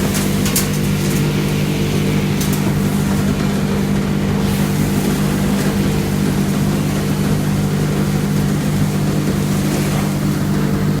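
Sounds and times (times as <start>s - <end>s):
extraction blower motor hum: 0.0s - 11.0s.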